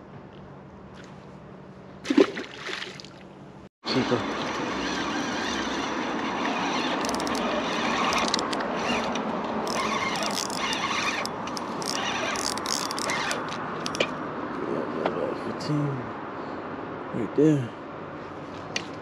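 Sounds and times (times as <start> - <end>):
road traffic rushing: 3.3 - 19.0.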